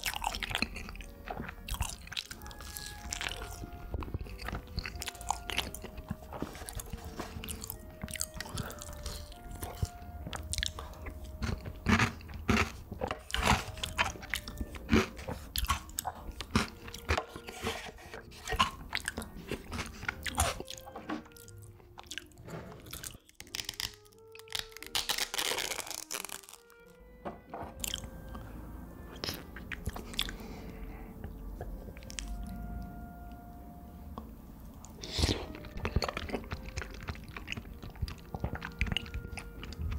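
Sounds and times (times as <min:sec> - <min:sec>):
biting and chewing: 0:00.0 - 0:26.9, 0:27.7 - 0:28.4, 0:29.1 - 0:30.8, 0:31.6 - 0:32.5, 0:34.8 - 0:39.9
soft background music: 0:00.0 - 0:39.9.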